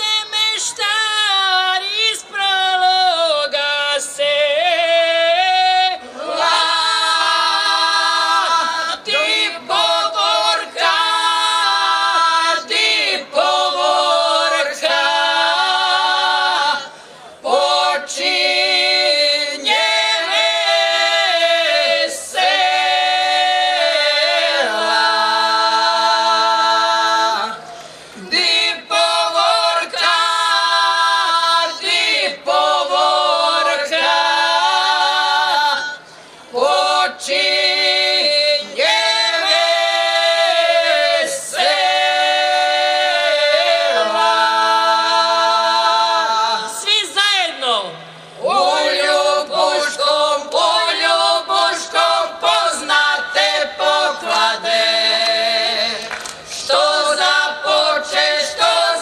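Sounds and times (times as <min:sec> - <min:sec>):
women singing a cappella: 0:00.0 - 0:59.0.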